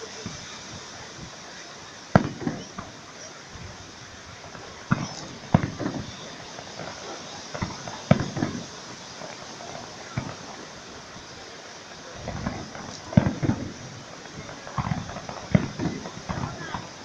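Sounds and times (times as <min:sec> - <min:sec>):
fireworks bangs with echo: 0:00.0 - 0:17.0.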